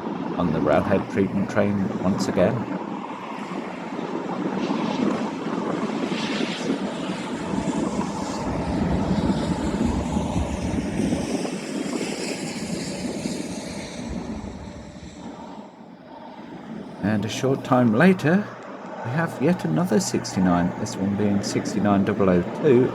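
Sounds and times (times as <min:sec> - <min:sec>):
locomotive engine drone: 0:00.4 - 0:04.4, 0:06.6 - 0:22.9.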